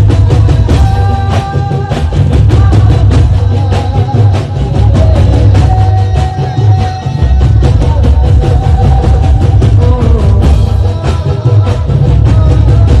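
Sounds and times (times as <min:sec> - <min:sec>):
music with heavy drum beat: 0:00.0 - 0:13.0.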